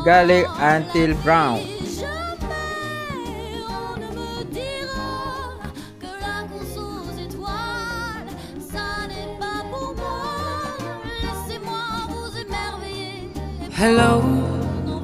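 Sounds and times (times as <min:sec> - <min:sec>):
guitar accompaniment: 0:00.0 - 0:15.0
person singing: 0:00.0 - 0:15.0.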